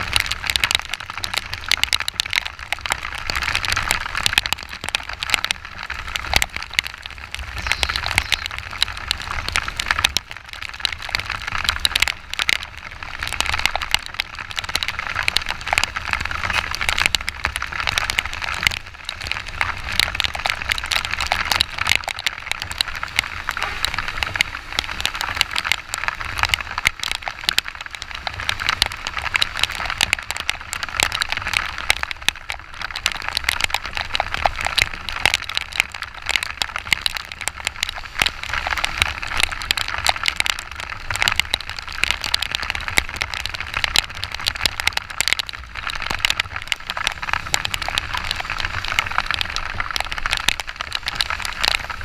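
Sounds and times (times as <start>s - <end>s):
heavy rain drops hitting camera: 0.0s - 52.0s
wind rumble: 0.0s - 52.0s.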